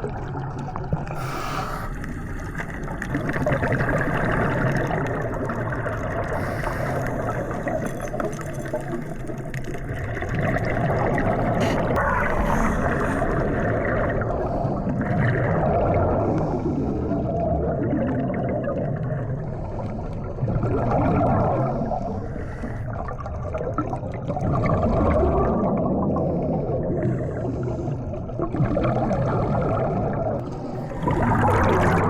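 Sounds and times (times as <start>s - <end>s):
water rushing and sloshing: 0.0s - 32.0s.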